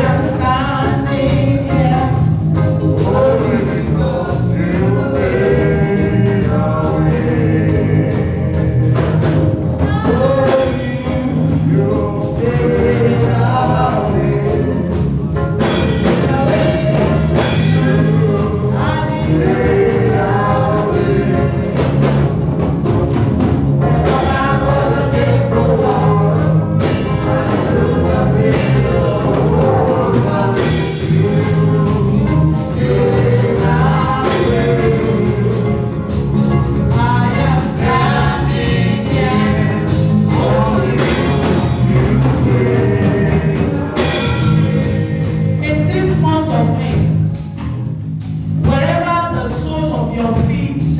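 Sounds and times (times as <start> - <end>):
bass line: 0.0 - 50.9
gospel music with singing: 0.0 - 50.9.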